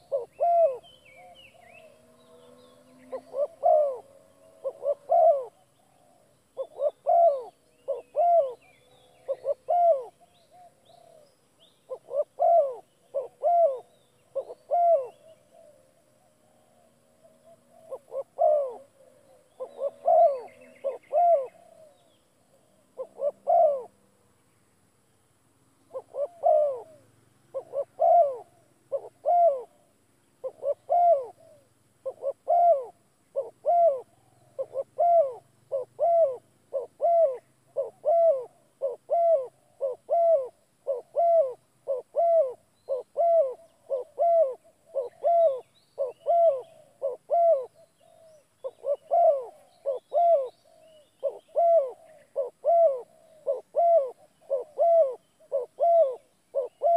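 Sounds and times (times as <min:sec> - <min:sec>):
bird hooting call: 0:00.0 - 0:24.0, 0:25.9 - 0:56.9.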